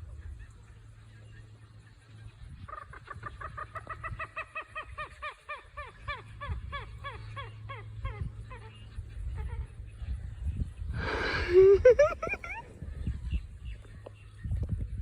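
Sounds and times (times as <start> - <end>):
marsh bird calling: 0.1 - 13.9.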